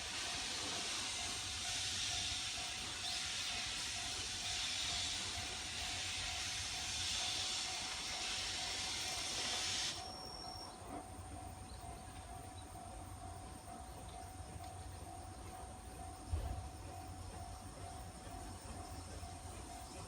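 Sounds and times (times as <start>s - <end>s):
faint steady tone: 0.0s - 20.0s
steam locomotive hissing: 0.0s - 20.0s.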